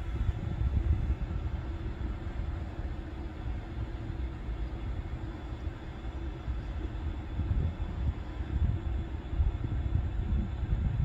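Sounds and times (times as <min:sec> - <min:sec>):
distant train approaching: 0:00.0 - 0:11.0
faint steady hum: 0:00.0 - 0:11.0.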